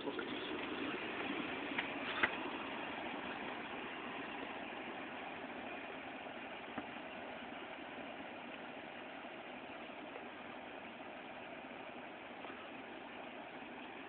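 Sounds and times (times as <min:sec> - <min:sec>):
car engine at low revs: 0:00.0 - 0:14.0.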